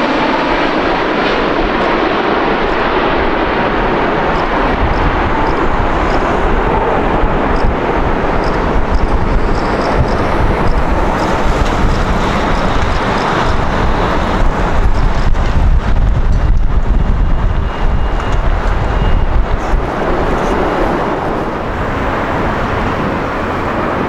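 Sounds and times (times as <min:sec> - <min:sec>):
jet airliner rumble: 0:00.0 - 0:24.0
wind buffeting microphone: 0:00.0 - 0:24.0.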